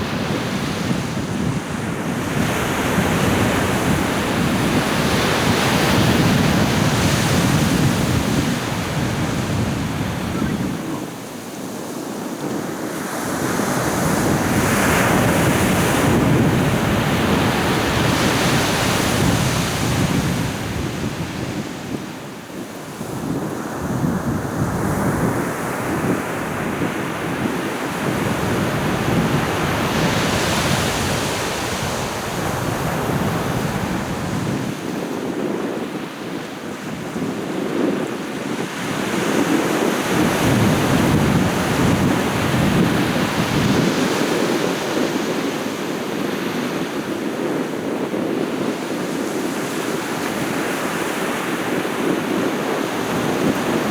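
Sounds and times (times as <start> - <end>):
ocean surf breaking on shore: 0.0 - 53.9
wind buffeting microphone: 0.0 - 53.9.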